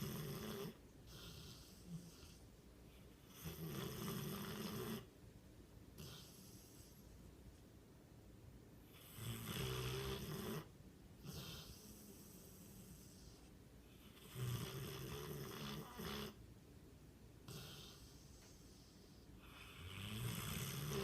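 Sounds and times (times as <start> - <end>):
dog snoring: 0.0 - 5.1, 6.0 - 7.0, 8.8 - 16.4, 17.4 - 21.0.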